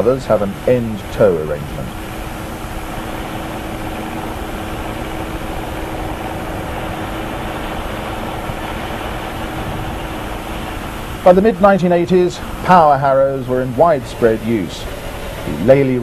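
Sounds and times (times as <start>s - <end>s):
field roller rumbling over ground: 0.0s - 16.0s
tractor engine running: 0.0s - 16.0s.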